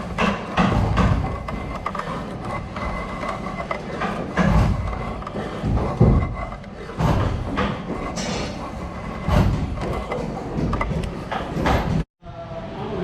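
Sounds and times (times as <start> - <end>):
wood scraping: 0.0 - 12.1
wooden knocks and thumps: 0.0 - 12.1.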